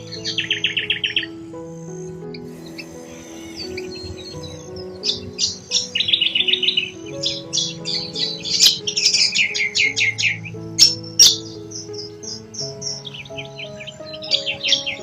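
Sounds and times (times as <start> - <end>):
small birds chirping: 0.0 - 15.0
soft background music: 0.0 - 15.0.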